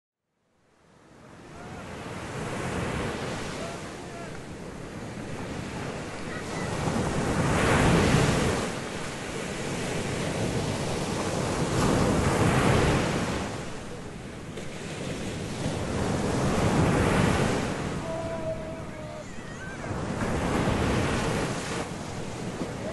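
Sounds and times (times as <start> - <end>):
sea waves washing: 1.0 - 22.9.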